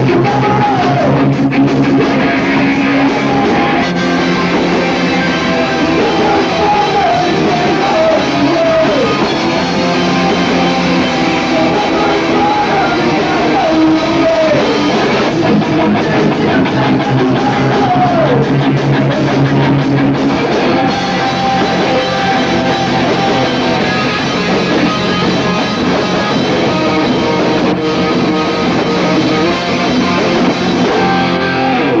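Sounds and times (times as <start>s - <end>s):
person singing: 0.0s - 32.0s
punk rock band playing live: 0.0s - 32.0s.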